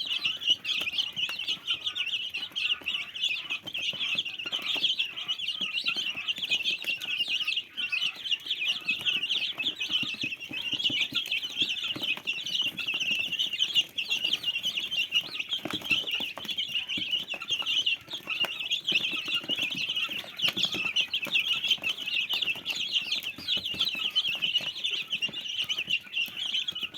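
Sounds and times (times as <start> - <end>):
chickens peeping: 0.0 - 26.9.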